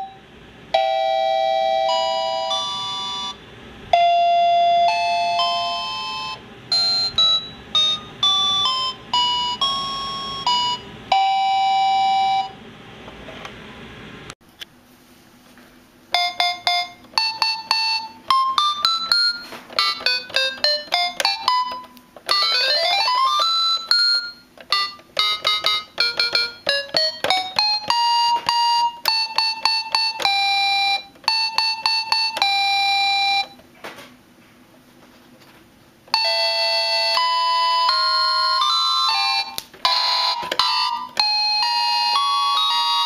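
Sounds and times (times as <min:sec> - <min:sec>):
toy keyboard electronic notes: 0:00.8 - 0:12.6, 0:16.1 - 0:33.6, 0:36.1 - 0:43.0.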